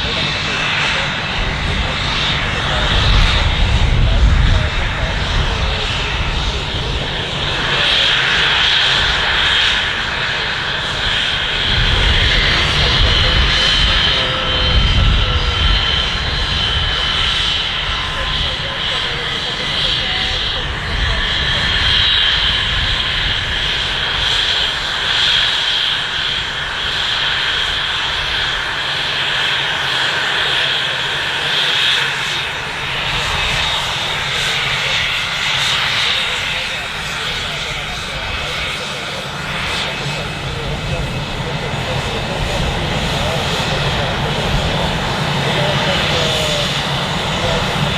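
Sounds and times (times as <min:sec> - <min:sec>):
aircraft turbine engines running: 0:00.0 - 0:47.9.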